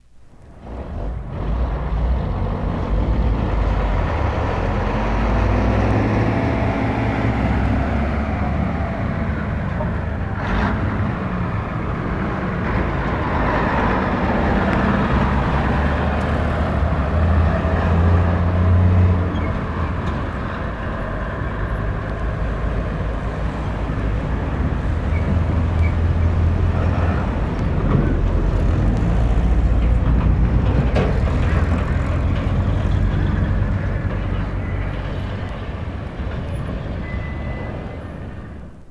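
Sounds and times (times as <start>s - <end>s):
heavy truck engines passing: 0.3s - 38.9s.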